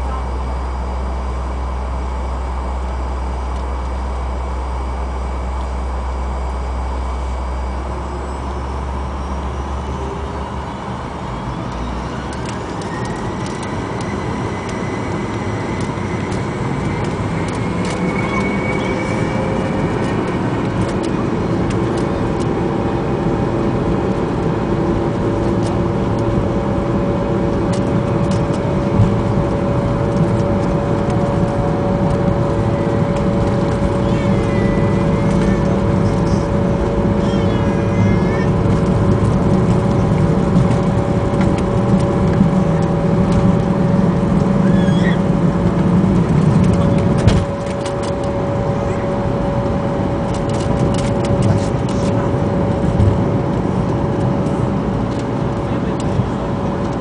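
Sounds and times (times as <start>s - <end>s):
jet engine and airflow roar: 0.0s - 57.0s
jet engines spooling up whine: 0.0s - 57.0s.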